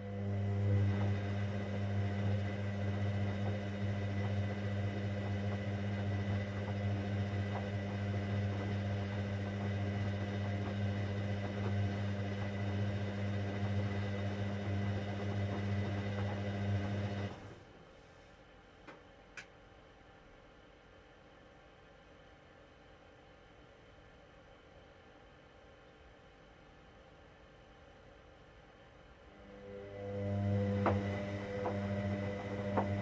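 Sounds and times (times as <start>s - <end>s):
washing machine electric hum: 0.0s - 33.0s.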